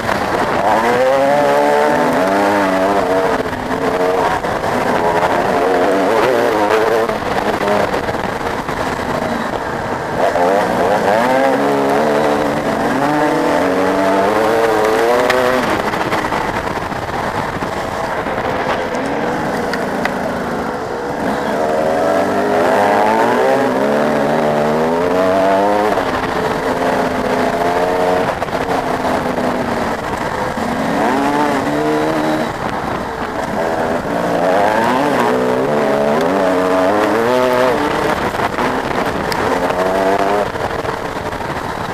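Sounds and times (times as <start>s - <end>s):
dirt bike engines racing: 0.0s - 41.9s.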